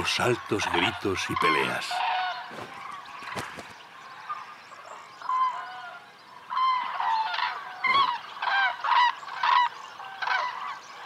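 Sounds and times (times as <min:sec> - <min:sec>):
cranes trumpeting calls: 0:00.0 - 0:03.6, 0:04.2 - 0:11.0.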